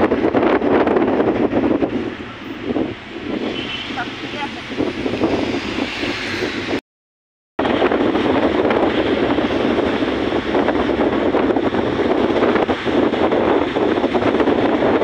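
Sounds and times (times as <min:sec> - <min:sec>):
vehicle road and engine noise: 0:00.0 - 0:06.8, 0:07.6 - 0:15.0
wind rushing over microphone: 0:00.0 - 0:06.8, 0:07.6 - 0:15.0.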